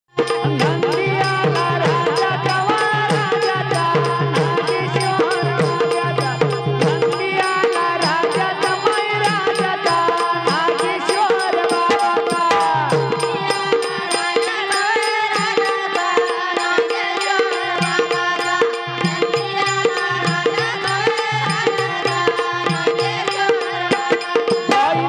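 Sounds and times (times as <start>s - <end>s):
drums: 0.1s - 25.0s
sustained devotional melody: 0.2s - 25.0s.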